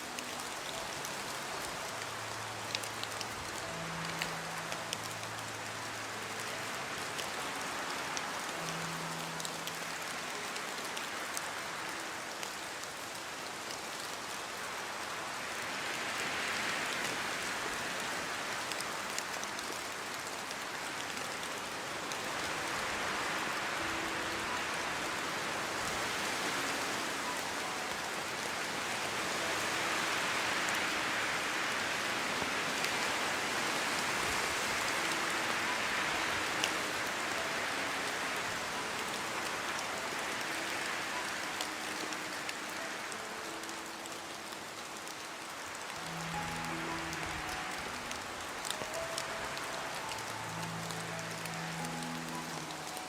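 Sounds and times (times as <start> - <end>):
raindrops ticking: 0.0 - 14.5, 17.8 - 53.0
steady rain falling: 0.0 - 53.0.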